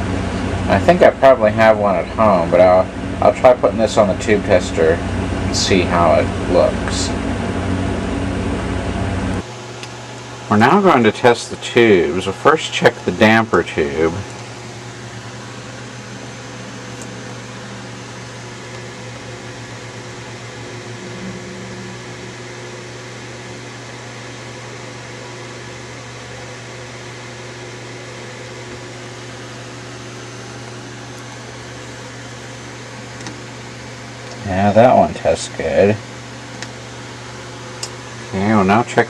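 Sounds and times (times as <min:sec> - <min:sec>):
fan-like hiss: 0:00.0 - 0:39.0
low electrical hum: 0:00.0 - 0:39.0.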